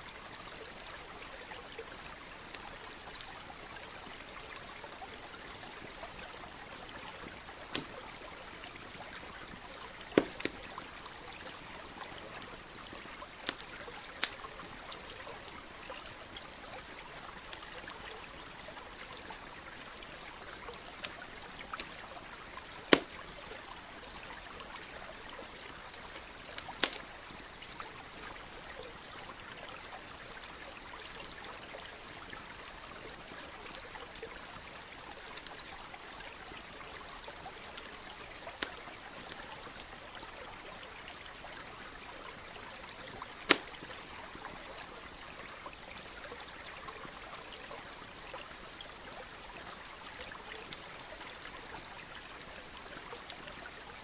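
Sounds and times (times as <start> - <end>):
campfire crackling and popping: 0.2 - 54.0.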